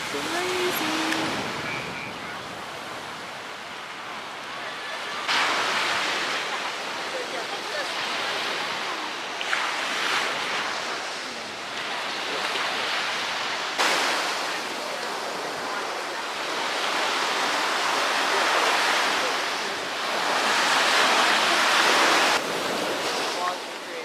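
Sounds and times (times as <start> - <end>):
ocean surf waves: 0.0 - 24.0.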